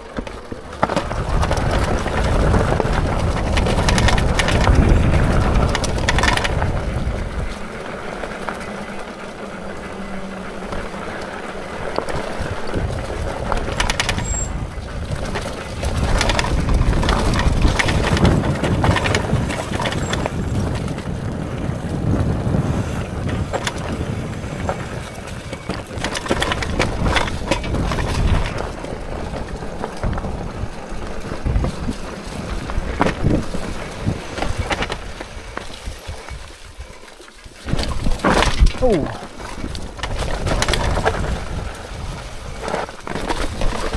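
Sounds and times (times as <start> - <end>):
bike rattling and knocking: 0.0 - 43.9
tyres crunching over stones: 0.0 - 43.9
wind rumble on microphone: 0.0 - 43.9.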